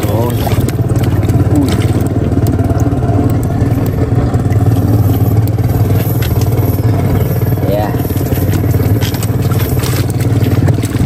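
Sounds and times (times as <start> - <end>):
boat engine running steadily: 0.0 - 11.0.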